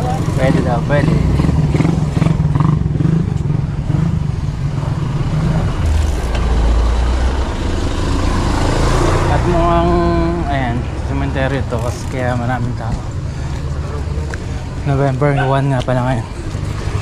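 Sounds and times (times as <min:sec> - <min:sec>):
deep engine rumble: 0:00.0 - 0:17.0
vehicle engines in traffic: 0:00.0 - 0:17.0.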